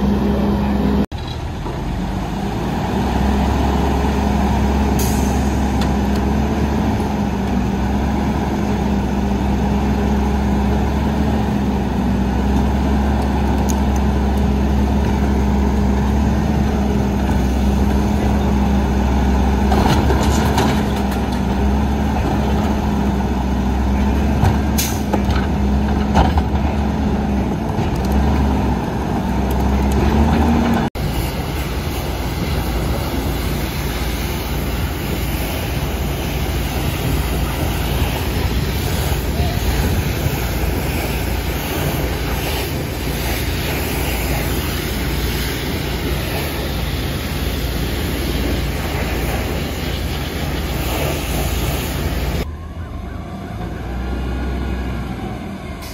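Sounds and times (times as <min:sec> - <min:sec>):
garbage truck diesel engine rumbling: 0:00.0 - 0:55.9.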